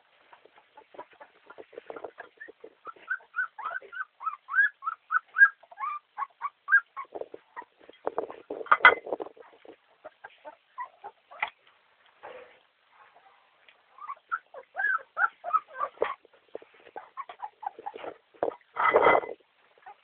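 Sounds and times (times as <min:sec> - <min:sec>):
puppies squeaking and whining: 0:00.4 - 0:11.6, 0:13.1 - 0:20.0.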